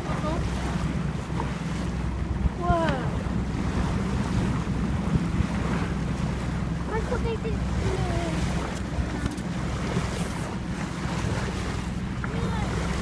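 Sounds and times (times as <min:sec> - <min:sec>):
boat motor humming: 0:00.0 - 0:13.0
water noise: 0:00.0 - 0:13.0.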